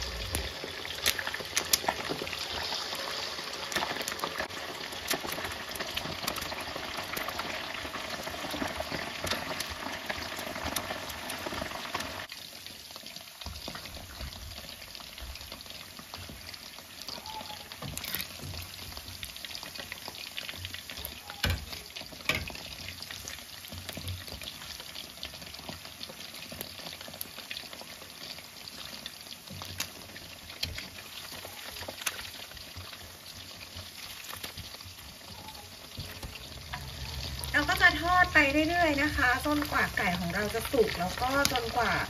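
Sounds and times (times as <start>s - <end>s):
deep-frying sizzle with crackles: 0.0s - 42.0s.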